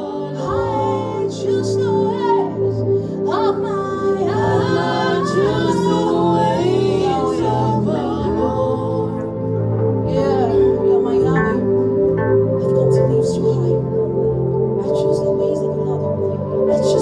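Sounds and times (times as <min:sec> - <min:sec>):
wordless singing: 0:00.0 - 0:17.0.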